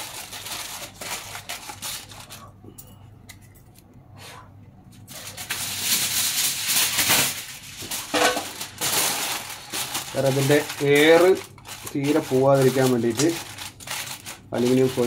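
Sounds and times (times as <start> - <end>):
aluminium foil crinkling: 0.0 - 2.6, 5.0 - 15.0.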